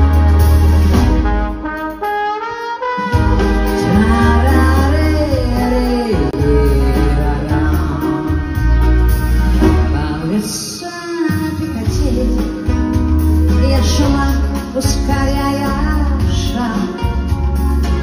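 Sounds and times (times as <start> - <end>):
live pop band playing: 0.0 - 18.0.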